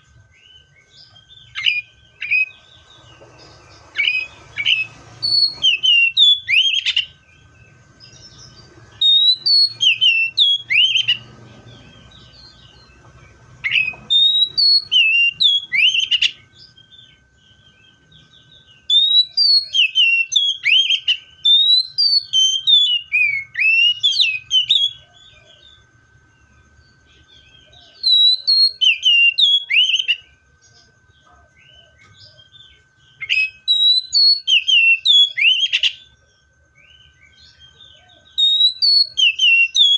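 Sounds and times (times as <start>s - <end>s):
bird singing whistled phrases: 0.0s - 13.0s, 13.6s - 25.6s, 27.2s - 30.4s, 31.6s - 36.2s, 36.8s - 39.9s.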